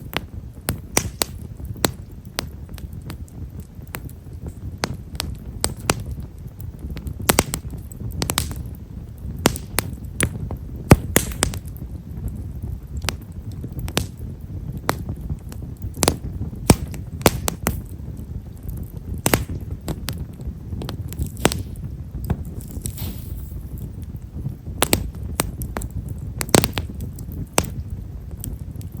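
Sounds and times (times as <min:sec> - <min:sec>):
low rustle of flames: 0:00.0 - 0:29.0
wood fire crackling: 0:00.0 - 0:29.0.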